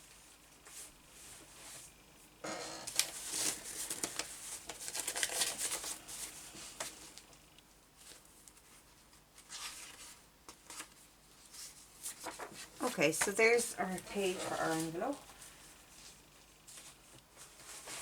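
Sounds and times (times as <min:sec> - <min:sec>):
paper rustling and crinkling: 0:02.9 - 0:07.3, 0:08.0 - 0:18.0.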